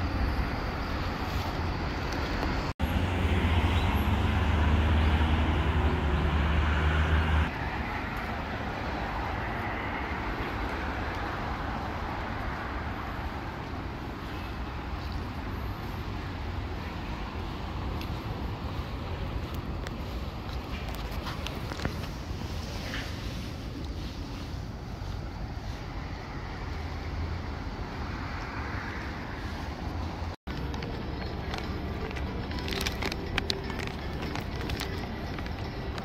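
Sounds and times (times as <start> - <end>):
street traffic: 0.0 - 36.0.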